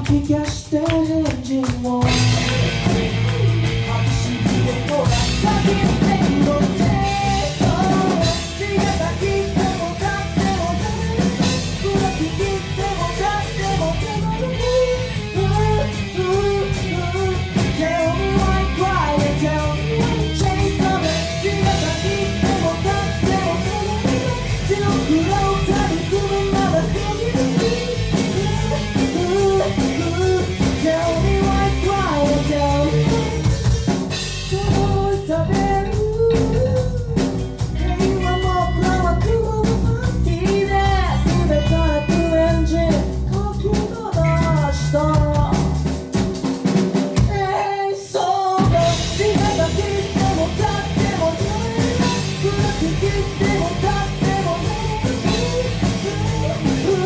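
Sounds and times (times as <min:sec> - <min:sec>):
bass guitar: 0:00.0 - 0:47.6, 0:48.6 - 0:57.0
drum kit: 0:00.0 - 0:57.0
electric guitar: 0:00.0 - 0:57.0
person singing: 0:00.0 - 0:57.0.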